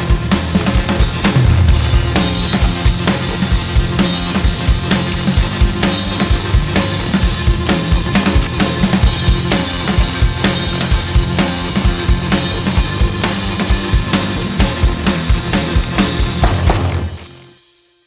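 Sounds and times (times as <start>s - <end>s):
drum kit playing a groove: 0.0s - 17.5s.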